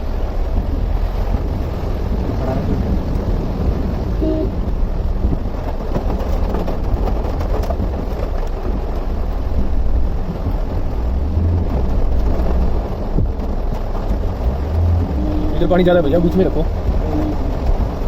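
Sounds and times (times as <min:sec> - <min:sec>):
vehicle rumble: 0:00.0 - 0:18.0
water splashing and rain: 0:00.0 - 0:18.0.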